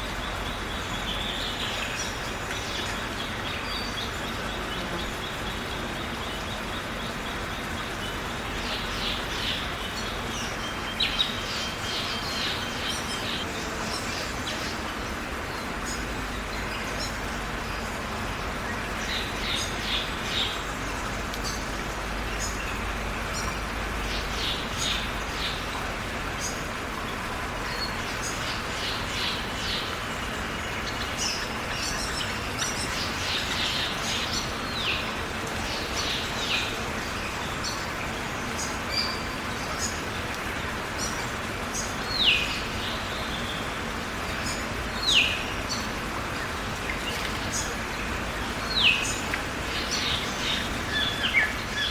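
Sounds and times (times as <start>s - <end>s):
birds chirping: 0.0s - 51.9s
rain hiss: 0.0s - 51.9s.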